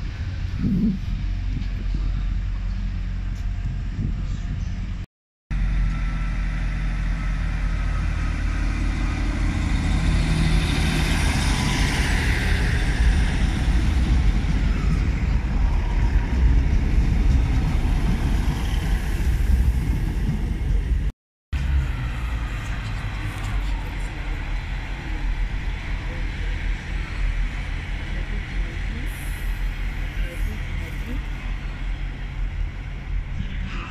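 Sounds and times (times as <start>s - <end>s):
train engine rumble: 0.0s - 33.9s
wheel and rail noise: 0.0s - 33.9s.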